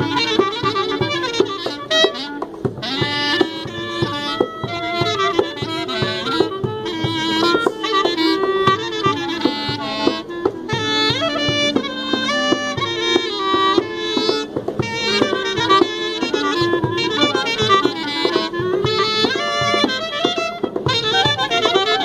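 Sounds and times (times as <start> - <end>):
clarinet and wind instrument melody: 0.0 - 22.0.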